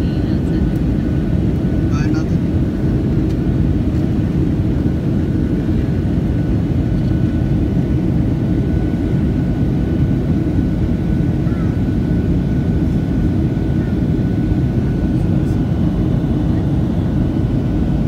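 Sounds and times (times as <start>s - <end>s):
jet engine low rumble: 0.0s - 18.0s.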